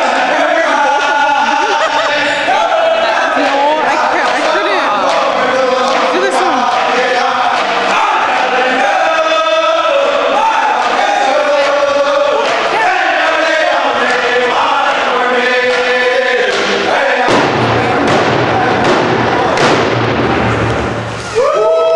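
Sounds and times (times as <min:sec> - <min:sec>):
group chanting in unison: 0:00.0 - 0:19.9.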